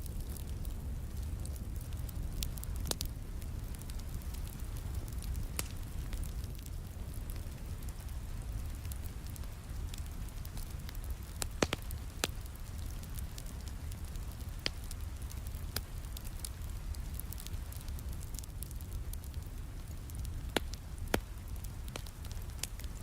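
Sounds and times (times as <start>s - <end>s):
low rumble of rain: 0.0s - 23.0s
wood fire crackling and popping: 0.0s - 23.0s.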